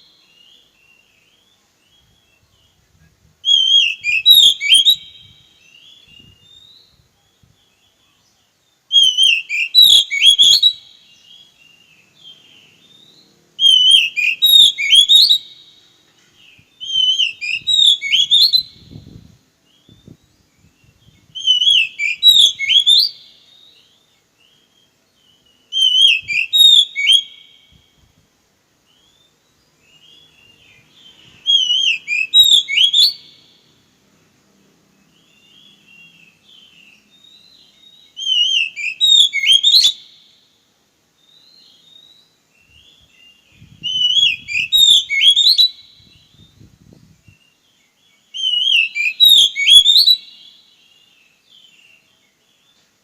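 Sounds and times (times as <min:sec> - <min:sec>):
bird singing whistled phrases: 0:00.0 - 0:15.8, 0:16.4 - 0:28.0, 0:28.9 - 0:33.6, 0:35.1 - 0:40.4, 0:41.2 - 0:52.8
faint bird twittering: 0:00.0 - 0:34.0, 0:34.7 - 0:53.0.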